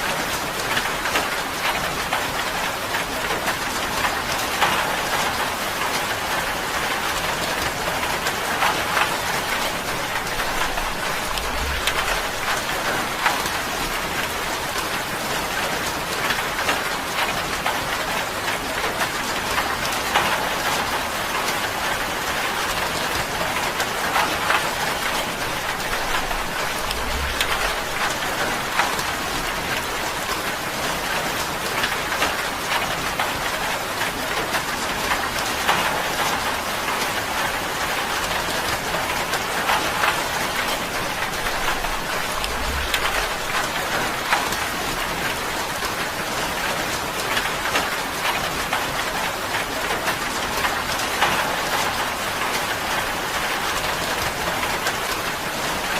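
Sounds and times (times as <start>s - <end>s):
rain drumming on a tin roof: 0.0s - 55.9s.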